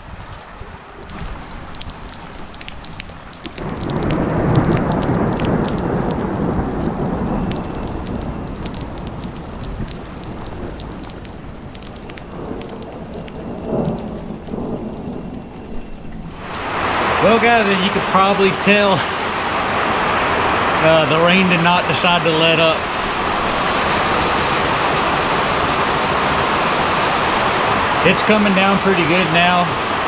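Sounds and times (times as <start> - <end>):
heavy rain pattering: 0.0 - 30.0
thunder rumbling: 0.0 - 30.0.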